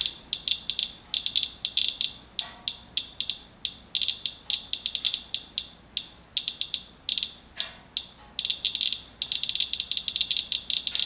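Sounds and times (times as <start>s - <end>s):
geiger counter clicking: 0.0s - 11.0s.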